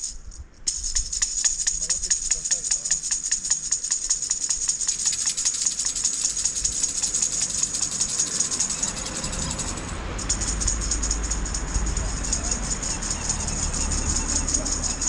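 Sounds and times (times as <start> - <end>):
fast high-pitched rattling: 0.0 - 15.0.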